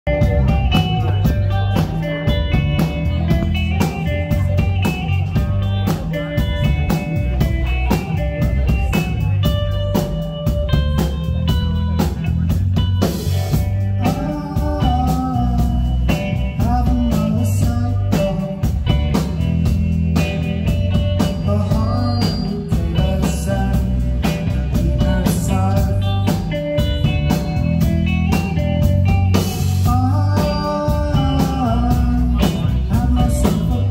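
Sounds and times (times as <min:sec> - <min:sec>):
bass guitar: 0:00.0 - 0:33.9
electric guitar: 0:00.0 - 0:33.9
steady drum beat: 0:00.0 - 0:33.9.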